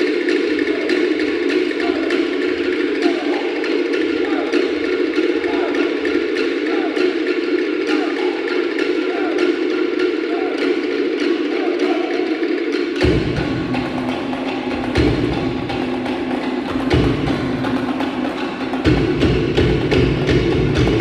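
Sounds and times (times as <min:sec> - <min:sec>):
wooden slit drums: 0:00.0 - 0:21.0.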